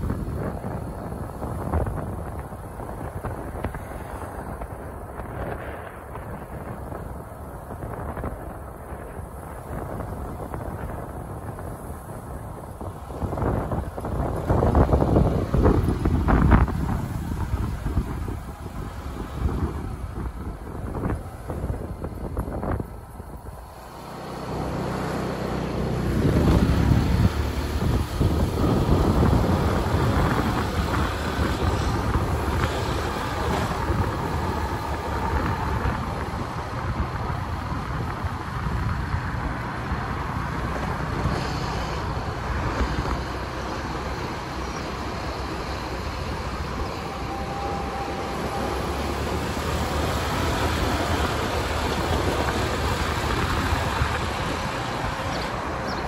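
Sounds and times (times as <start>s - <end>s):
vehicle road noise rumble: 0.0s - 56.0s.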